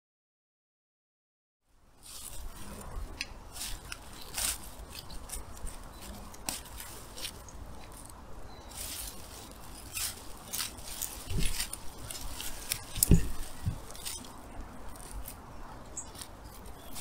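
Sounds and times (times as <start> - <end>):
weeds snapping and rustling: 2.0 - 17.0.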